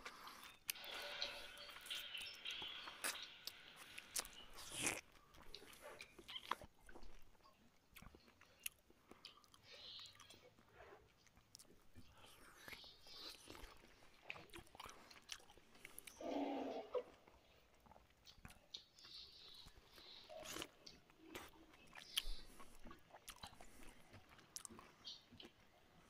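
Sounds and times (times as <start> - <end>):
person chewing food: 0.0 - 16.3, 16.9 - 26.0.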